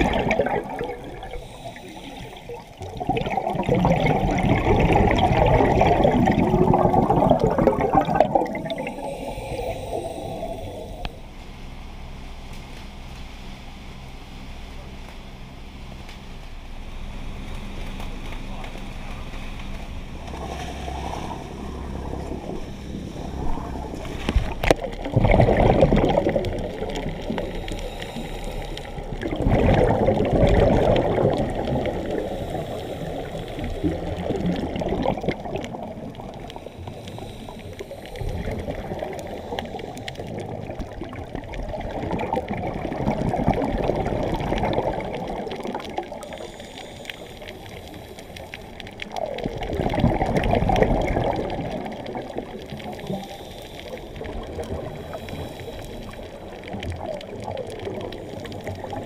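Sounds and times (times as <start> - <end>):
steady watery rush: 0.0 - 12.2, 16.3 - 59.0
regulator bubbles gurgling underwater: 0.0 - 59.0.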